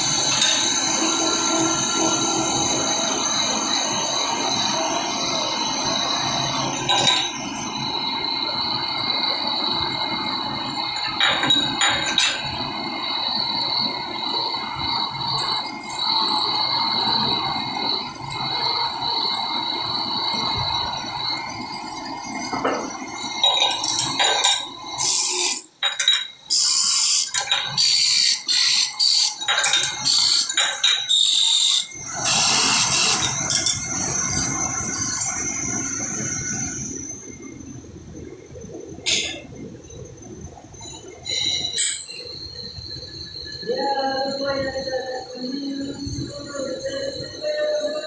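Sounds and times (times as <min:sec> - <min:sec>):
lathe high whine: 0:00.0 - 0:48.0.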